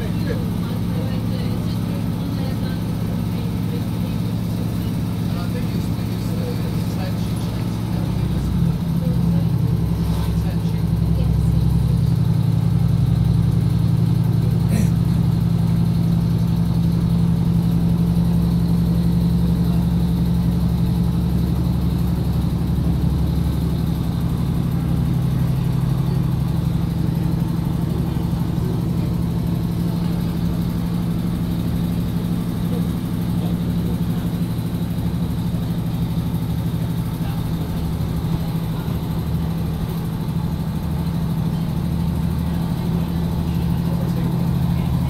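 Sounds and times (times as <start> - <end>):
diesel train droning: 0.0 - 45.0.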